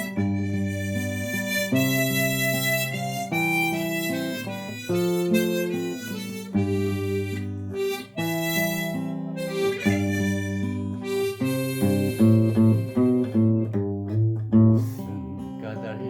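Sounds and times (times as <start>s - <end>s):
instrumental ballad melody: 0.0s - 16.0s.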